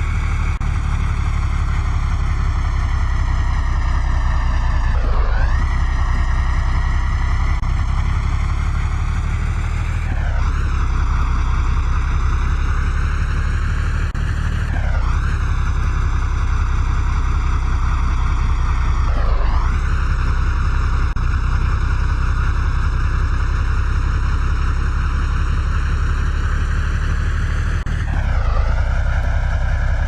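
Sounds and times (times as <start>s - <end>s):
truck engine rumbling under load: 0.0s - 30.0s.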